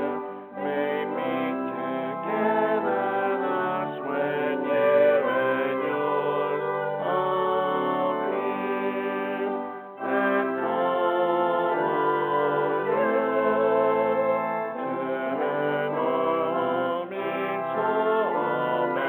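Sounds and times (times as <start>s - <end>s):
brass-like organ chords: 0.0s - 19.0s.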